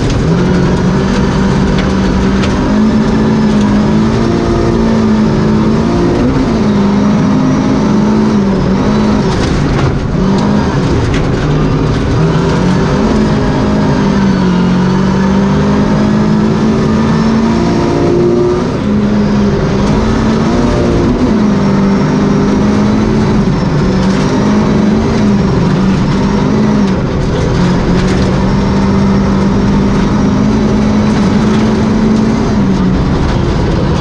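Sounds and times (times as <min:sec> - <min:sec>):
rally car engine at high revs: 0:00.0 - 0:34.0.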